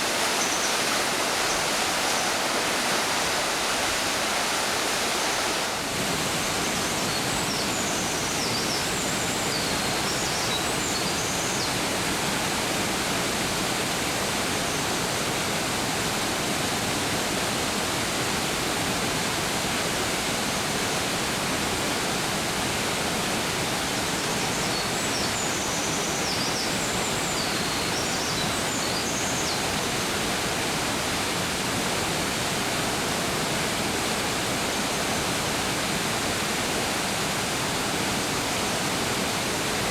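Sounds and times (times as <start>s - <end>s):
rushing mountain stream: 0.0s - 39.9s.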